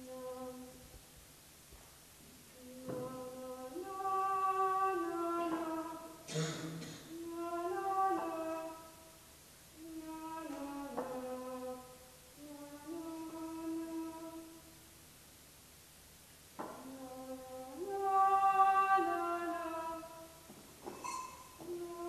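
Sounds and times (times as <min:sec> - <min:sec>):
woman singing unaccompanied: 0:00.0 - 0:01.1, 0:02.3 - 0:14.8, 0:16.6 - 0:22.0.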